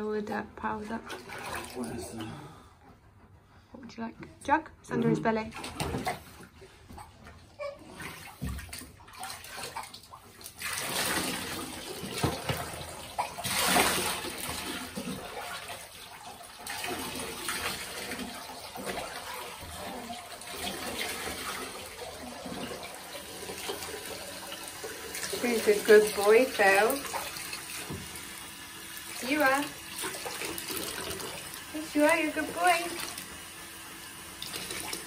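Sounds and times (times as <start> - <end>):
water pouring and splashing: 1.0 - 2.2, 5.5 - 35.0.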